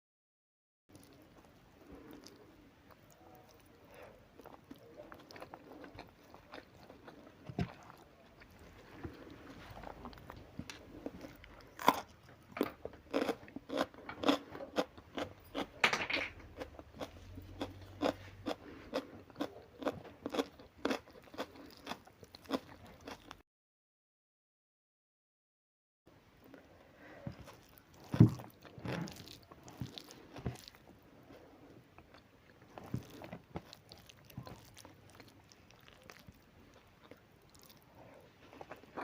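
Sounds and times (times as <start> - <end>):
crunchy food being chewed: 0.9 - 23.4, 27.3 - 39.0.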